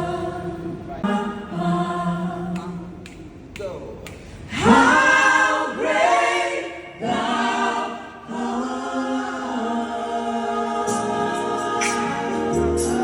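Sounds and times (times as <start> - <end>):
group singing in harmony: 0.0 - 3.0, 4.5 - 13.0.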